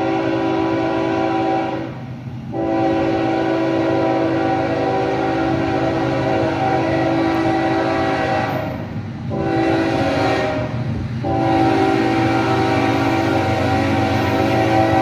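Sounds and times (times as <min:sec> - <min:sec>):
locomotive air horn blasts: 0:00.0 - 0:15.0
moving train rumble: 0:00.0 - 0:15.0.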